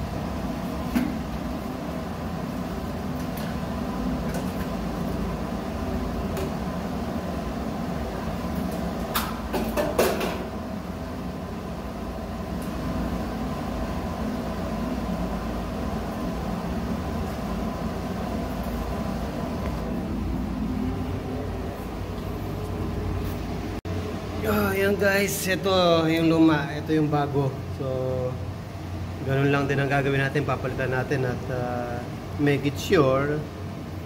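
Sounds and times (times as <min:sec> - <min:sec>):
low machinery hum: 0:00.0 - 0:34.0.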